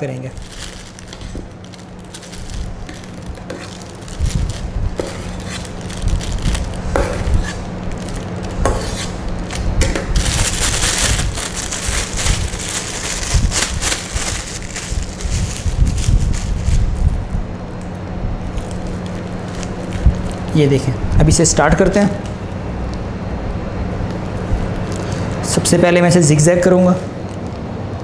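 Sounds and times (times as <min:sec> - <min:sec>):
plastic bag crinkling: 0:00.0 - 0:22.4, 0:24.0 - 0:25.6
steady low hum: 0:00.0 - 0:28.0.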